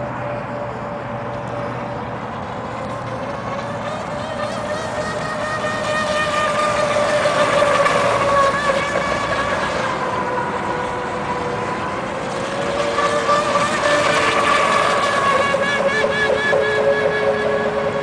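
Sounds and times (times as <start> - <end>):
model boat motor whining: 0.0 - 18.0.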